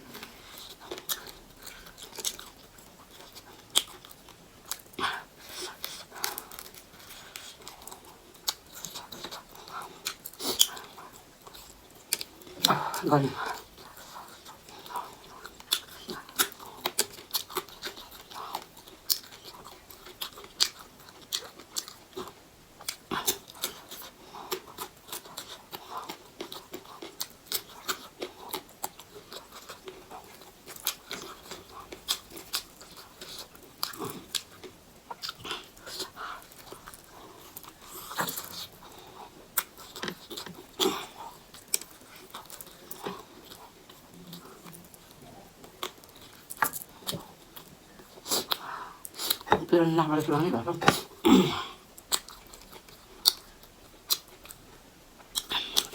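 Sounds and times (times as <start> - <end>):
chewing and crunchy bites: 0.1 - 49.6, 50.3 - 55.9.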